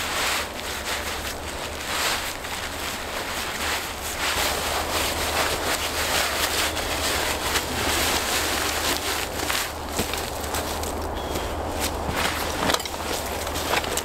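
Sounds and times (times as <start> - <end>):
tarp rustling and crinkling: 0.0 - 14.0.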